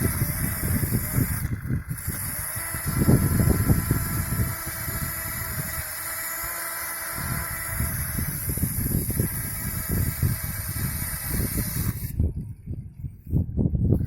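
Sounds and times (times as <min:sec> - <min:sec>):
electric toy motor whining: 0:00.0 - 0:12.3.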